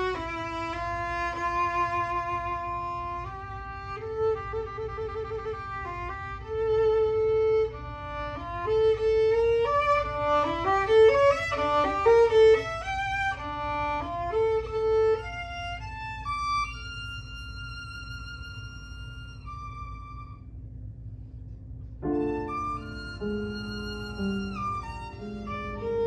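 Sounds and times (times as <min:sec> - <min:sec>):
violin melody: 0:00.0 - 0:20.4, 0:22.0 - 0:26.0.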